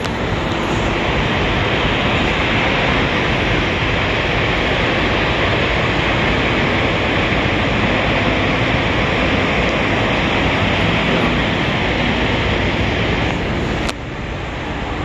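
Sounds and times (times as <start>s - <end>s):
trucks idling: 0.0s - 15.0s.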